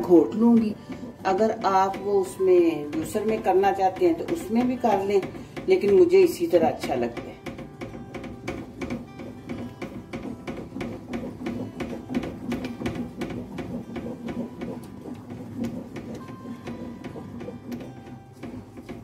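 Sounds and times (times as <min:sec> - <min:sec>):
wooden masher knocking metal pot: 0:00.0 - 0:19.0.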